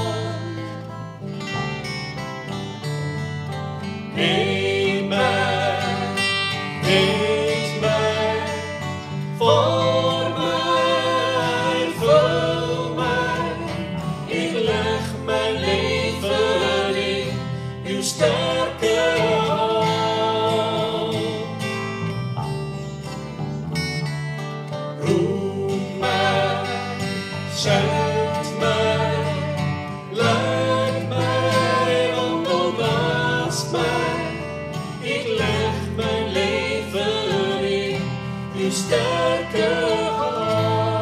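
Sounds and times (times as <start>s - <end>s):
woman and man singing together: 0.0s - 1.0s, 4.1s - 21.7s, 25.0s - 41.0s
strummed acoustic guitars: 0.0s - 41.0s.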